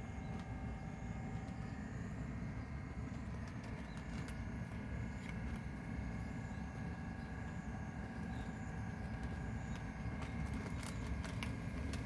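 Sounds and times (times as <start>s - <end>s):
cats crunching dry kibble: 0.0s - 12.0s
low outdoor rumble: 0.0s - 12.0s.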